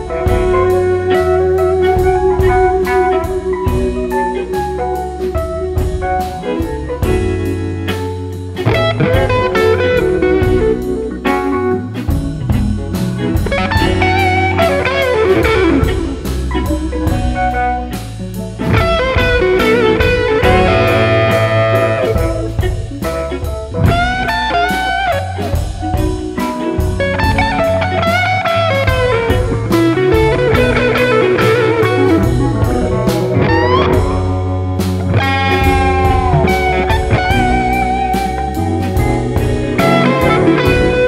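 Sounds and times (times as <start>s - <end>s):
bass and drums: 0.0s - 41.0s
lead guitar bending notes: 0.0s - 41.0s.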